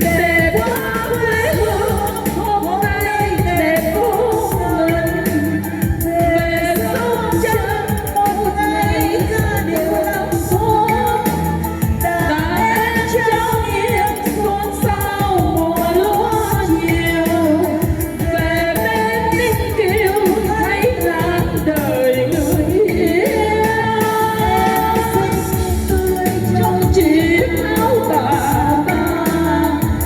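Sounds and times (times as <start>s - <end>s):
backing track with bass beat: 0.0s - 30.0s
women singing: 0.0s - 30.0s.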